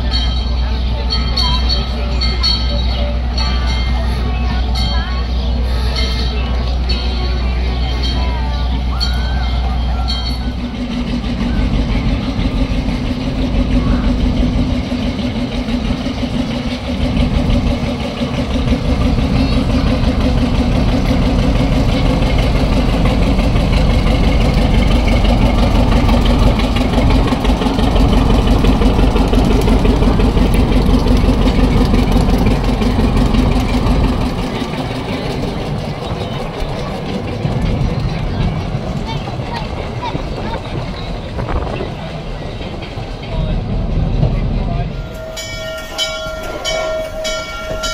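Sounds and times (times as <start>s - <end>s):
locomotive engine running: 0.0s - 47.9s.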